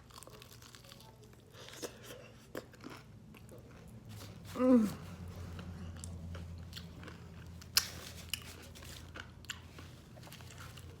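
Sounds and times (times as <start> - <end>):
person chewing crispy food: 0.0 - 11.0.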